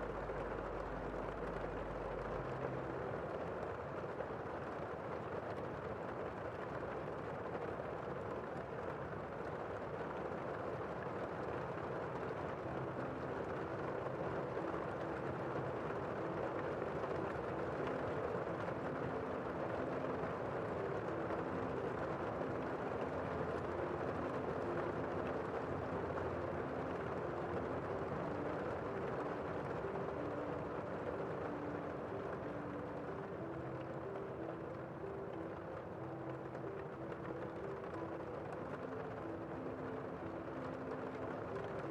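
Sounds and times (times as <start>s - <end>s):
muffled rain falling: 0.0s - 41.9s.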